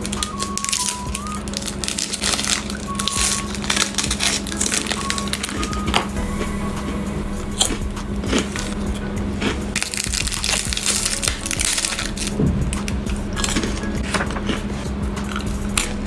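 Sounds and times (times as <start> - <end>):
background music: 0.0 - 16.0
biting and chewing bread: 0.0 - 16.0.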